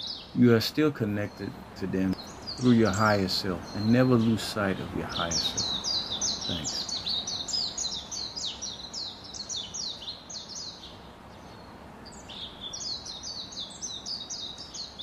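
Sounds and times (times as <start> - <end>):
bird chirping rapidly: 0.0 - 15.0.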